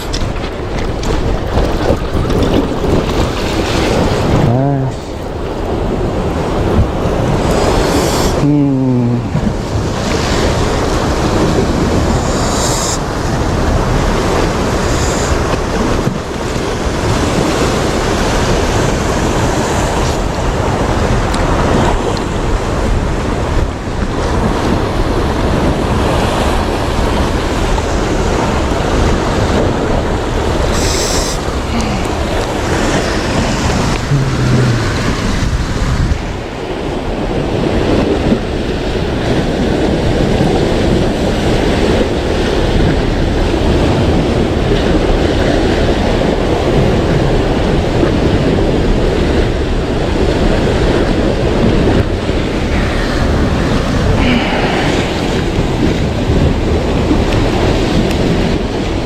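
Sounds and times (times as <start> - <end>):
sea waves washing ashore: 0.0 - 59.0
wind buffeting microphone: 0.0 - 59.0.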